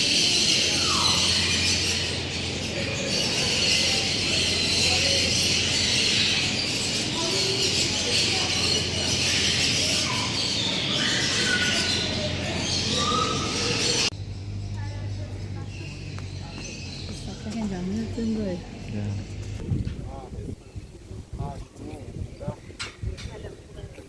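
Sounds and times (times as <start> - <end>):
chorus of birds chirping: 0.0 - 24.0.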